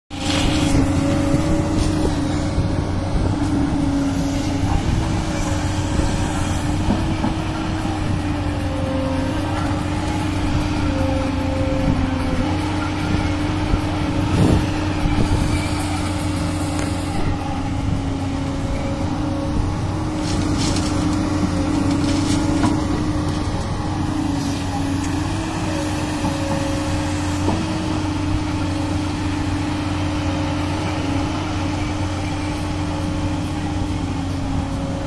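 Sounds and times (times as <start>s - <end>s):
excavator diesel engine working: 0.1s - 35.0s
hydraulic whine: 0.1s - 35.0s.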